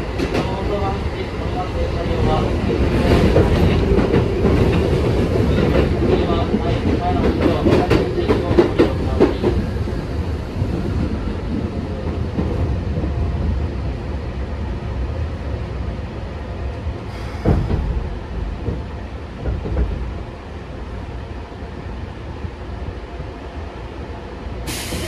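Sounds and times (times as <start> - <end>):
train interior rumble: 0.0 - 25.0.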